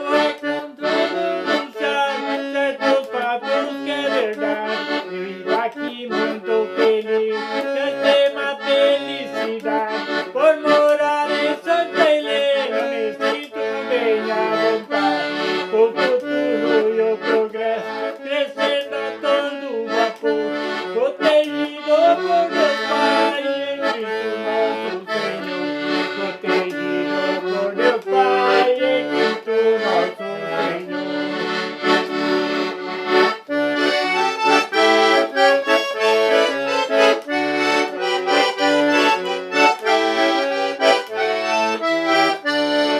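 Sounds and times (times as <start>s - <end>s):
accordion playing a traditional tune: 0.0s - 42.9s.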